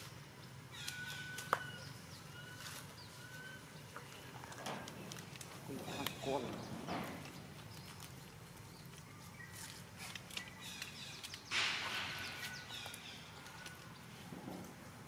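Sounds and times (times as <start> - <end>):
rustle in dry leaves: 0.0 - 15.0.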